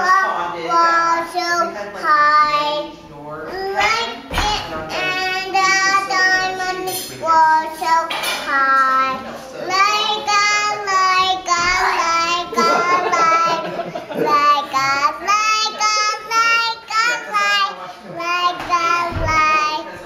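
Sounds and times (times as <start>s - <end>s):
child singing: 0.0s - 20.0s.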